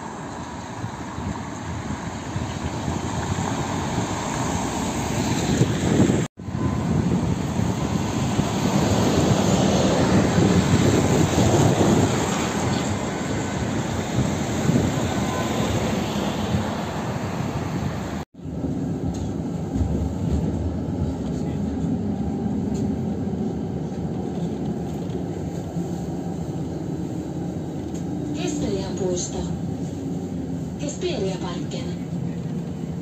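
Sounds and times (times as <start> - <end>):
city traffic rumble: 0.0 - 33.0.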